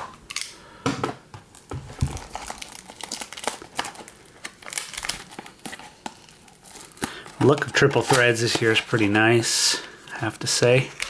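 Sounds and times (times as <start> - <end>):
plastic wrapper crinkling: 1.5 - 11.0.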